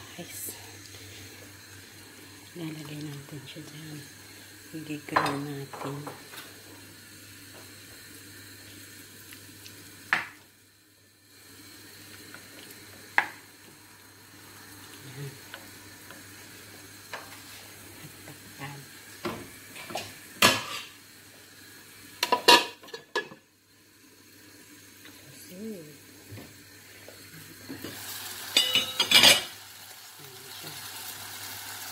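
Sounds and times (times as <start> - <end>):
chicken sizzling in a frying pan: 0.0 - 31.9.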